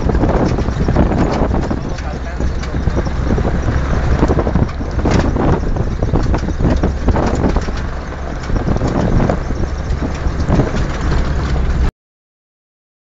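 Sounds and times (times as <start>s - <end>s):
rattles and knocks: 0.0s - 11.9s
vehicle rumble on dirt road: 0.0s - 11.9s
wind on microphone: 0.0s - 11.9s.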